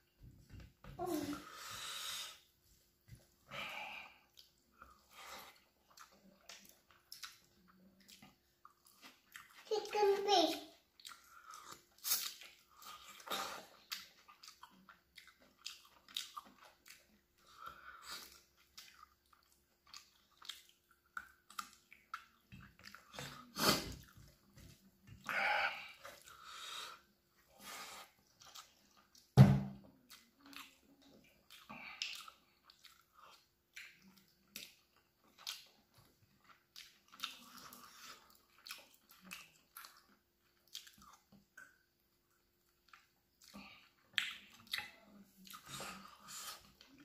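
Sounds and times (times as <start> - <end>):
wet chewing and lip smacks: 4.3 - 9.7, 10.9 - 27.5, 28.1 - 29.4, 30.0 - 47.0.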